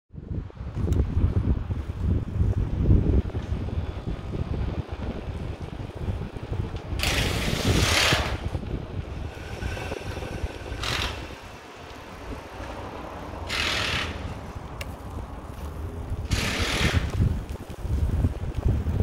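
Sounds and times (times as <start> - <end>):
wind buffeting microphone: 0.1 - 19.0
low rumble: 0.2 - 19.0
rushing bursts of noise: 1.6 - 19.0.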